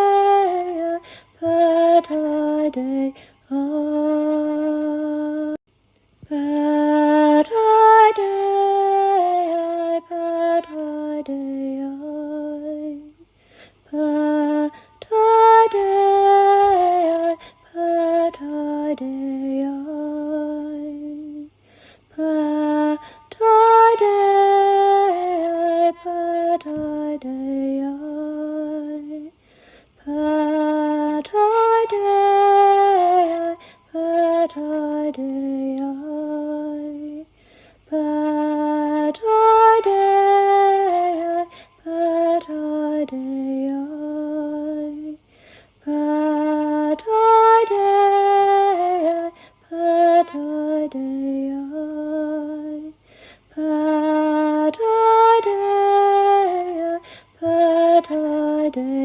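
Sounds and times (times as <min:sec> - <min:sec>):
woman singing unaccompanied: 0:00.0 - 0:05.6, 0:06.2 - 0:59.0.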